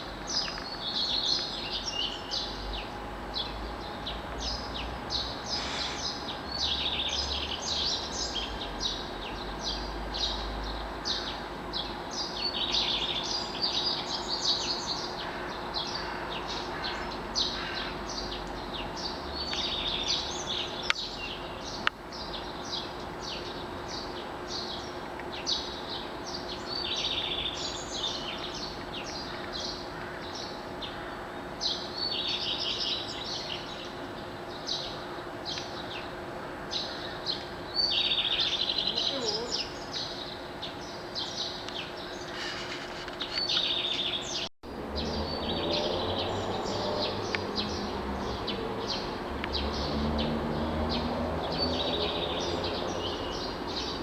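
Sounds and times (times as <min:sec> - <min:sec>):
many birds chirping and trilling: 0:00.0 - 0:54.0.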